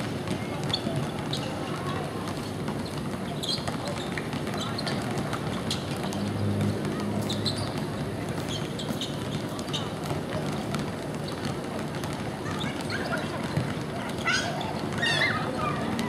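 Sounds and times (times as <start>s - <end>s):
distant players' voices: 0.0s - 16.0s.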